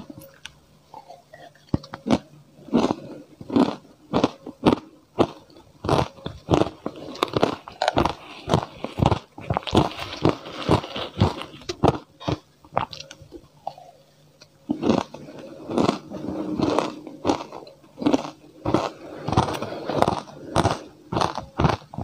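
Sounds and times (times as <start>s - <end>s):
crunching and chewing ice: 0.0s - 22.0s.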